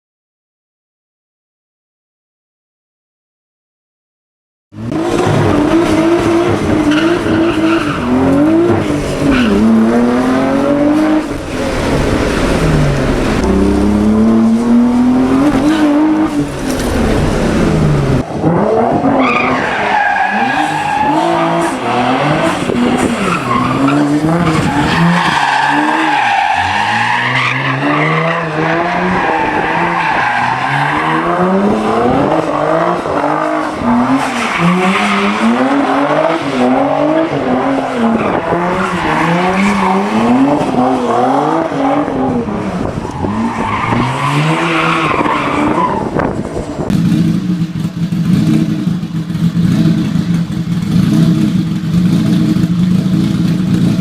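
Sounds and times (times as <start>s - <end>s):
car engine accelerating: 4.8s - 54.0s.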